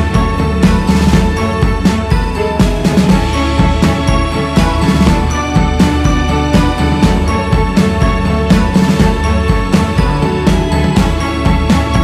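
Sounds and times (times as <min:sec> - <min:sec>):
background music with a regular beat: 0:00.0 - 0:12.0.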